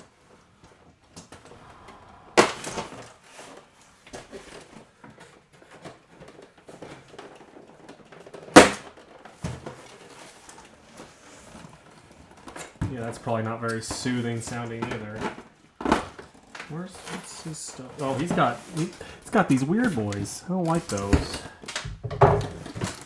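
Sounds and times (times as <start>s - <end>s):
packaging rustling: 2.3s - 13.4s, 14.3s - 21.8s.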